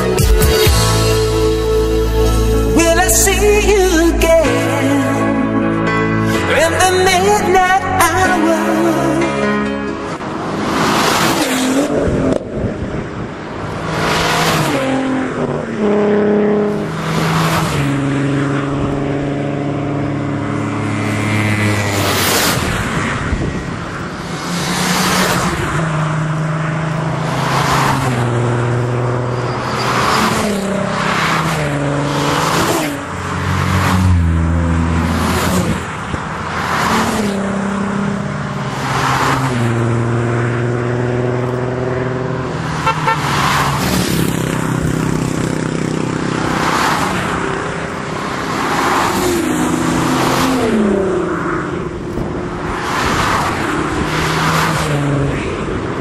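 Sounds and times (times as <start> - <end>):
cars driving past: 3.0 - 56.0.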